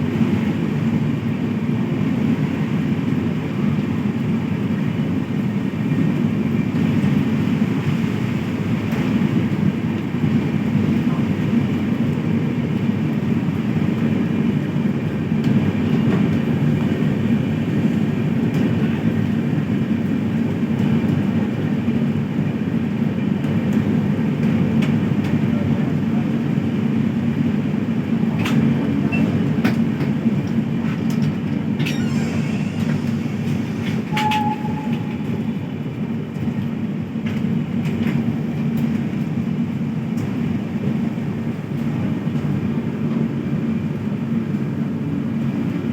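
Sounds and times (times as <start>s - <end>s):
train rumbling on track: 0.0s - 45.9s.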